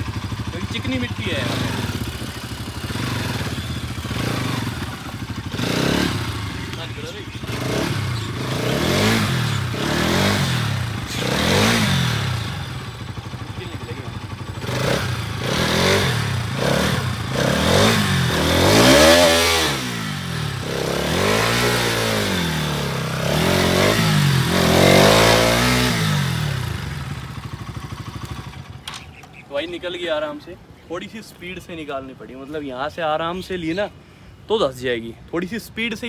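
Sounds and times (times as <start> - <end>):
motorcycle engine revving: 0.0 - 29.4.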